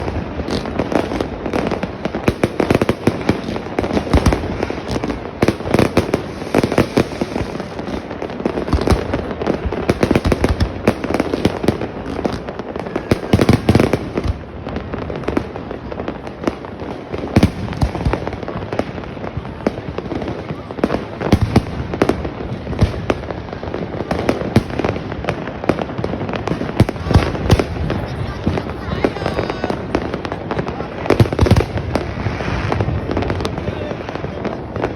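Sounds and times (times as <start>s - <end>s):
firecrackers crackling: 0.0s - 34.9s
fireworks bangs and cracks: 0.0s - 34.9s.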